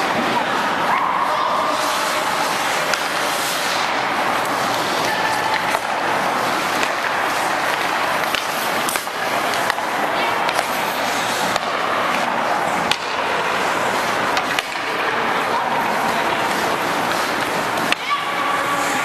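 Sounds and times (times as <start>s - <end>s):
hockey sticks and puck clacking: 0.0s - 19.0s
skates scraping on ice: 0.0s - 19.0s.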